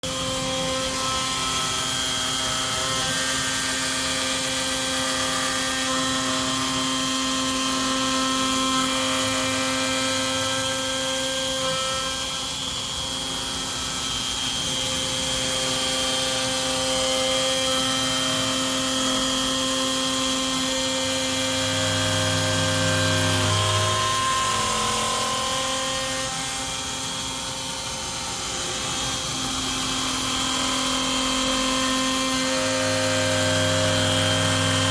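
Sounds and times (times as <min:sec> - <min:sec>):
router spindle whining: 0:00.0 - 0:34.9.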